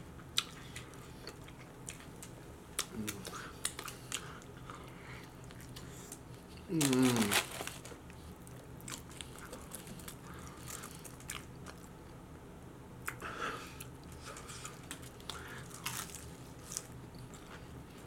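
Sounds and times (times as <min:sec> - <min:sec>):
crunchy chewing: 0:00.2 - 0:12.2, 0:13.0 - 0:18.0.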